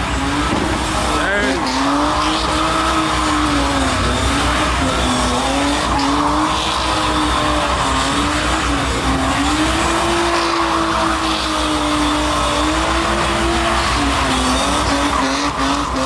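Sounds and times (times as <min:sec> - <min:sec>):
car engine at high revs: 0:00.0 - 0:16.0
tires spinning and squealing: 0:00.0 - 0:16.0.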